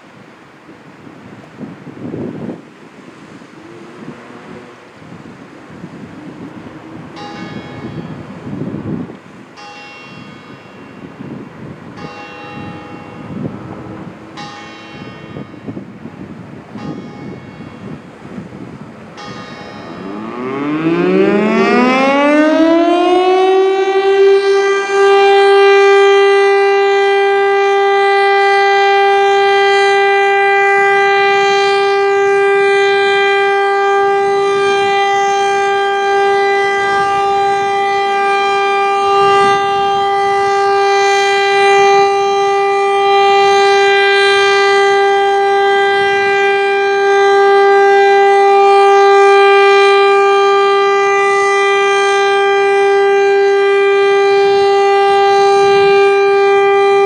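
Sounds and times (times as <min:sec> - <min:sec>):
warning siren whine: 0:00.0 - 0:57.0.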